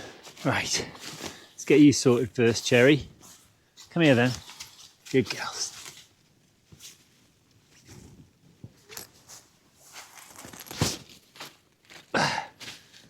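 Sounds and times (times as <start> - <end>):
fabric rustling and scuffing: 0.0 - 13.0.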